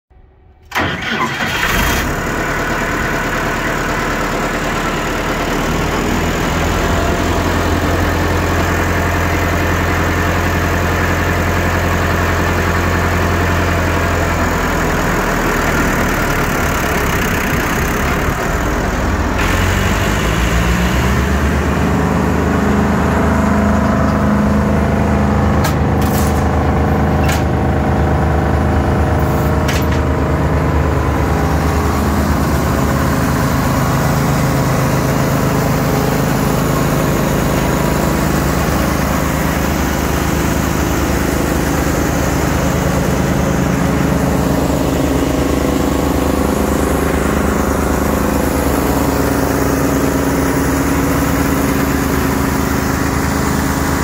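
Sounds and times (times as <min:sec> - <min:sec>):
wood chipper engine running: 0:00.2 - 0:54.0.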